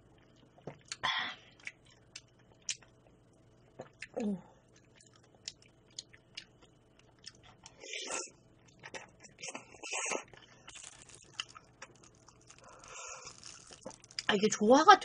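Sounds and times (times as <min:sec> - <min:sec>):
chewing and wet mouth noises: 0:00.1 - 0:01.0, 0:01.6 - 0:14.3.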